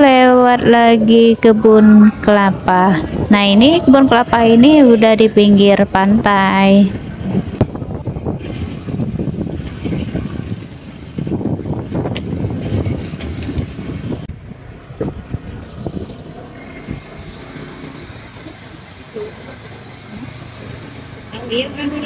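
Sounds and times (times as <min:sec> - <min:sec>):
gusty wind buffeting microphone: 0:00.0 - 0:21.3.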